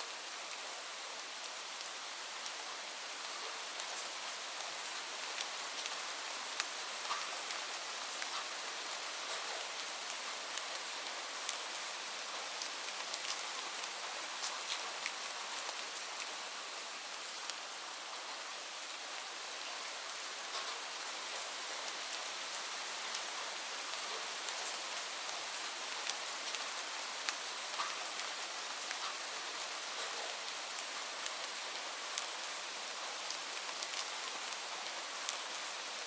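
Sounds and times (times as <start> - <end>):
rain falling on leaves: 0.0 - 36.0.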